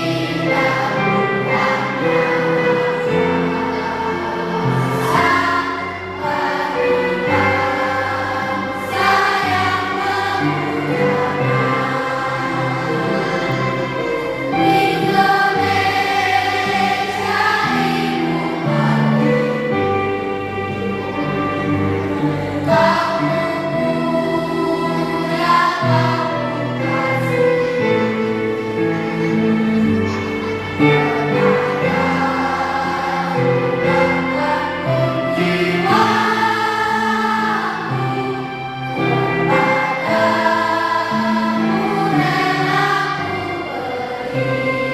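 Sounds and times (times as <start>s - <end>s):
children's choir singing: 0.0s - 44.9s
instrumental accompaniment held notes: 0.0s - 44.9s.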